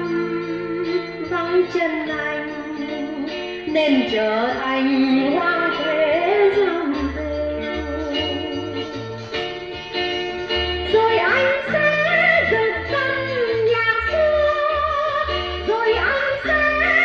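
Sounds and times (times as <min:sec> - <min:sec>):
bass line: 0:00.0 - 0:17.0.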